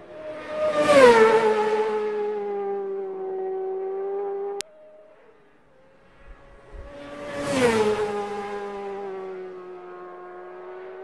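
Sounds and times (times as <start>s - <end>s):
racing motorcycle passing: 0.0s - 11.0s.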